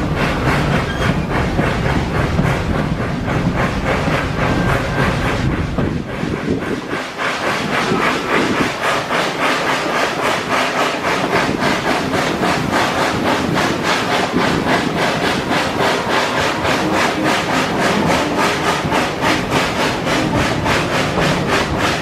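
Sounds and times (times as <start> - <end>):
steam locomotive chuffing: 0.0 - 22.0
train running noise: 0.0 - 22.0.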